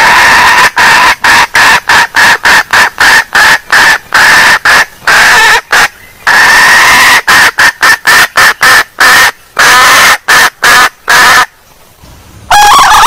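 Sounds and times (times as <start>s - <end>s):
junglefowl call: 0.0s - 11.5s, 12.5s - 13.0s.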